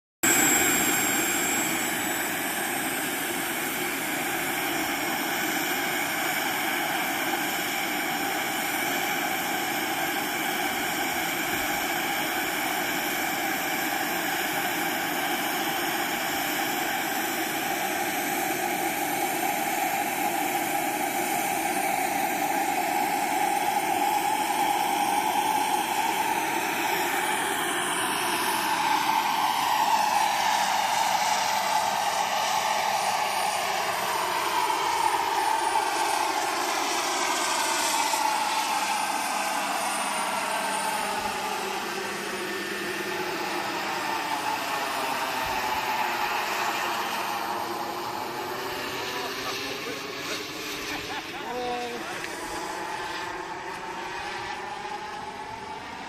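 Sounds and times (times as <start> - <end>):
model helicopter turbine whine: 0.2 - 56.0.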